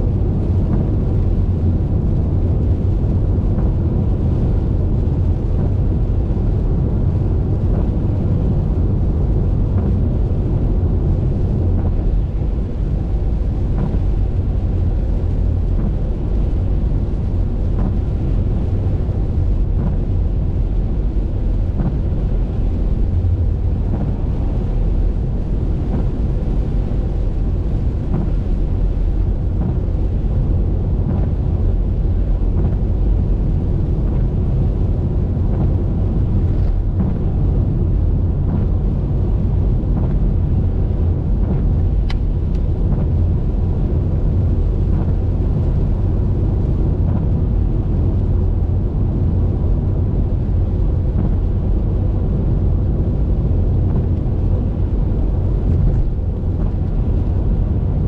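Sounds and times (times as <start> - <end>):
car driving on highway: 0.0 - 58.0.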